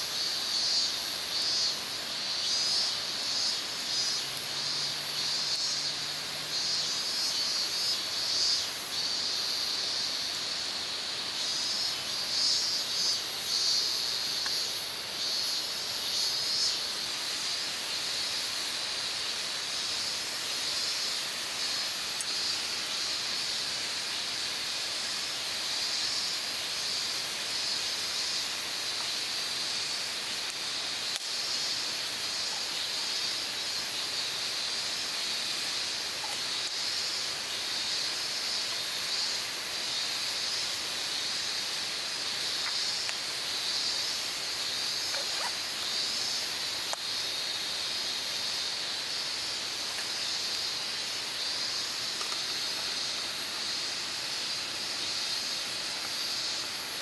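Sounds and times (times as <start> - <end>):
insects buzzing: 0.0 - 57.0
steady hiss: 0.0 - 57.0.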